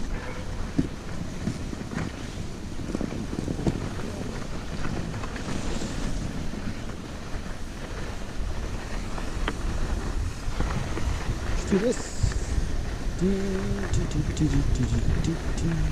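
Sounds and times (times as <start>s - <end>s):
skis scraping over snow: 0.0s - 15.9s
wind buffeting microphone: 0.0s - 15.9s.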